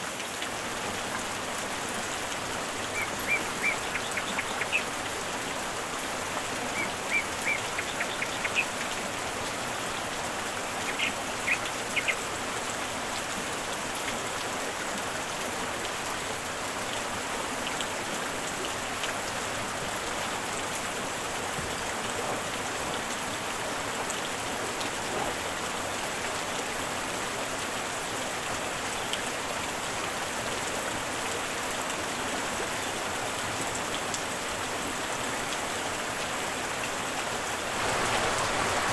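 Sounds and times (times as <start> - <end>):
rain falling on pool water: 0.0 - 38.9.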